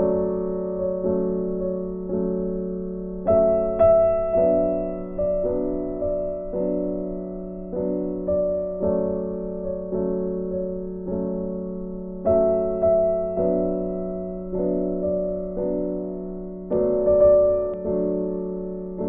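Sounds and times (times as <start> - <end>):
soft piano chords: 0.0 - 19.0.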